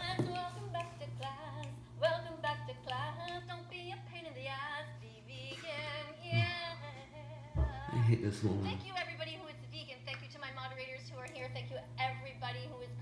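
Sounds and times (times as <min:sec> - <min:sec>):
steady low hum: 0:00.0 - 0:13.0
woman singing through small speaker: 0:00.0 - 0:13.0.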